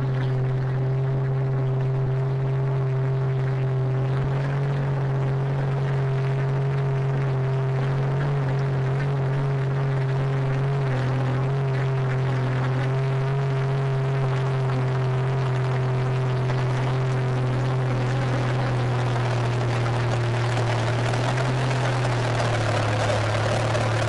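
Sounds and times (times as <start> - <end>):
tractor engine droning: 0.0 - 24.0.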